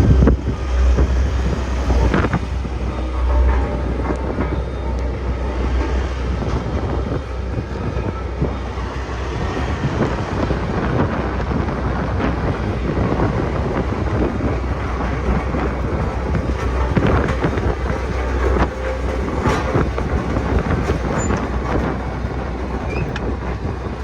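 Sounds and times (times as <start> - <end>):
diesel engine rumbling: 0.0 - 24.0
wind noise on microphone: 0.0 - 24.0.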